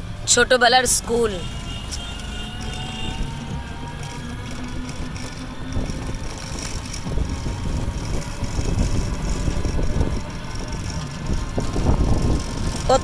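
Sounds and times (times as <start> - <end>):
road noise: 0.0 - 13.0
road vehicle rumble: 0.0 - 13.0.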